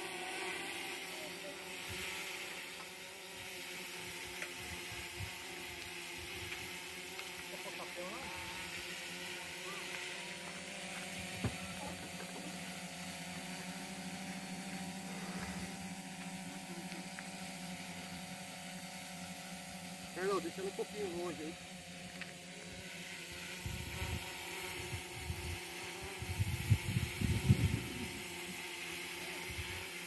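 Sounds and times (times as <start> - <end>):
quadcopter drone hovering: 0.0 - 30.0.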